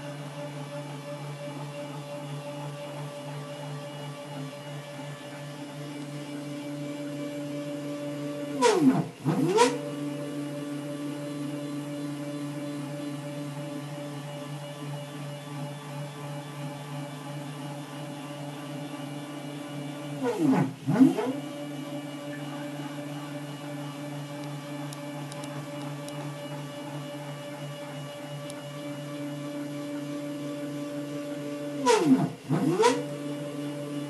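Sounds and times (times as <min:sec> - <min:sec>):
stepper motor whine: 0:00.0 - 0:34.0.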